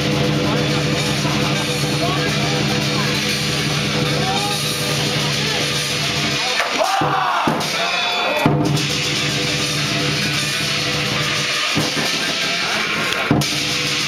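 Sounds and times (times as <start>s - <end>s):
gong ringing: 0.0s - 6.6s, 7.6s - 14.0s
cymbals clashing: 0.0s - 14.0s
drum: 0.0s - 14.0s.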